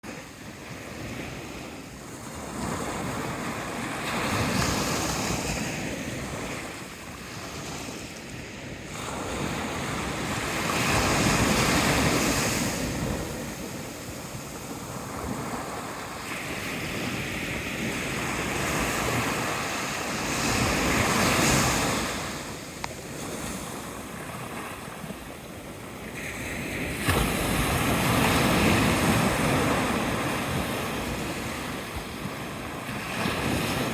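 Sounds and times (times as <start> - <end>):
ocean waves breaking on shore: 0.0 - 33.9
wind on microphone: 0.0 - 33.9.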